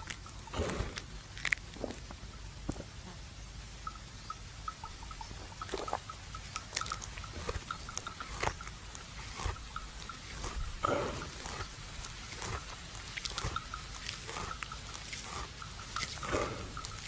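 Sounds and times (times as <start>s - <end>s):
buffalo chewing cud: 0.0s - 3.0s, 3.8s - 17.0s.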